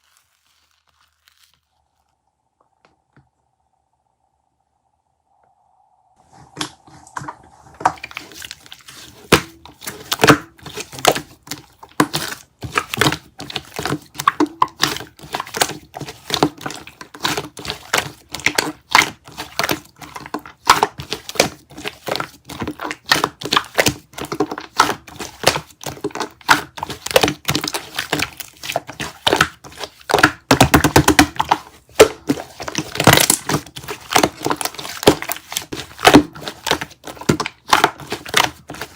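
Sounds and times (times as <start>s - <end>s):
shaving foam crackling and squishing: 0.0s - 2.2s, 6.3s - 38.9s.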